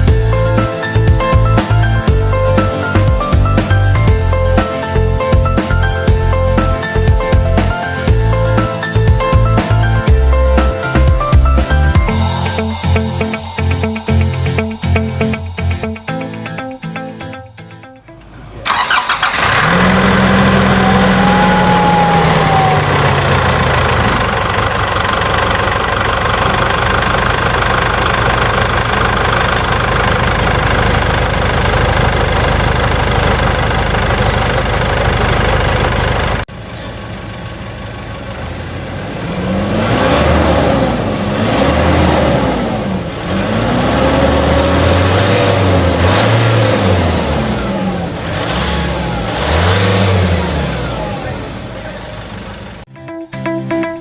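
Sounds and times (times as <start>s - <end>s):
diesel engine revving: 0.0s - 14.0s, 18.1s - 52.9s.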